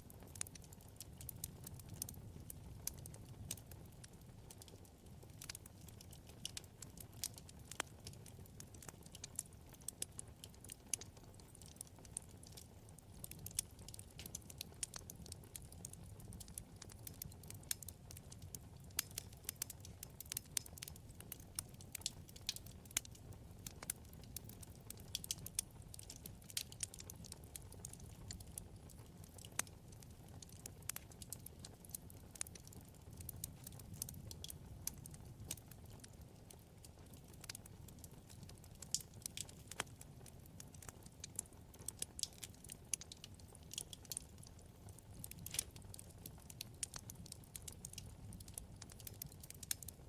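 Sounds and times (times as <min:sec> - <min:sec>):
low rumble of flames: 0:00.0 - 0:50.0
wood fire crackling: 0:00.0 - 0:50.0.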